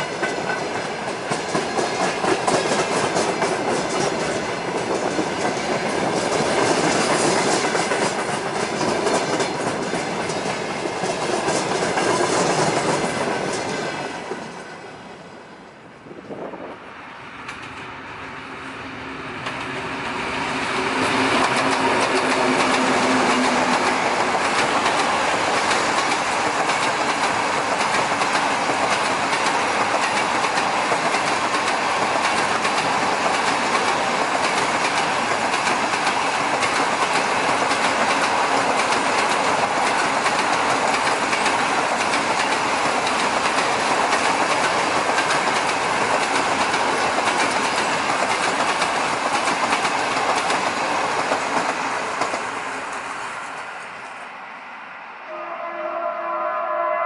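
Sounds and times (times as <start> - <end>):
wheels clacking over rail joints: 0.0 - 14.8, 20.6 - 53.7
train wheels rumbling on rails: 0.0 - 54.5
diesel locomotive engine drone: 0.0 - 57.0.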